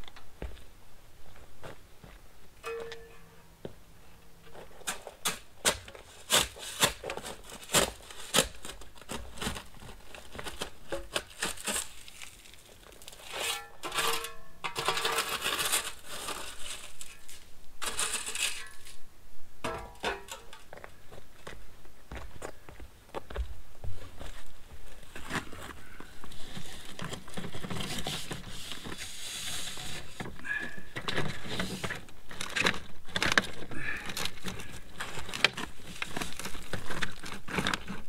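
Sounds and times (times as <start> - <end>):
rustling and scraping: 0.0 - 38.0.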